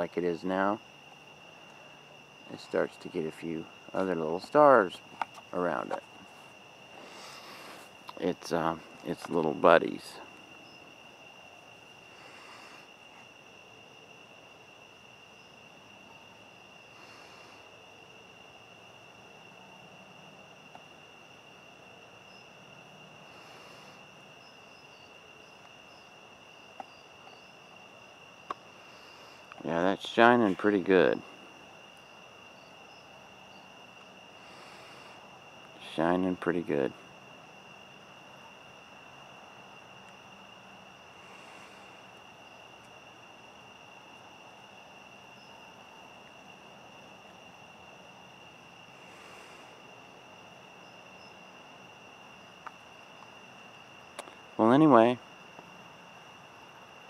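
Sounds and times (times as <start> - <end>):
crickets trilling: 0.0 - 57.0
low hiss: 0.0 - 57.0.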